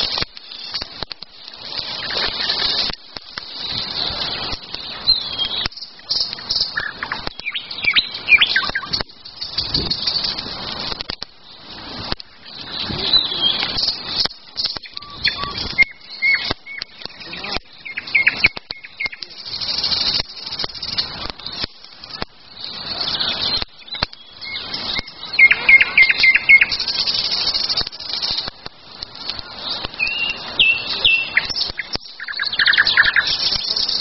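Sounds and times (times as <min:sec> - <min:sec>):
campfire crackling and popping: 0:00.0 - 0:34.0
songbirds chirping and trilling: 0:00.0 - 0:34.0.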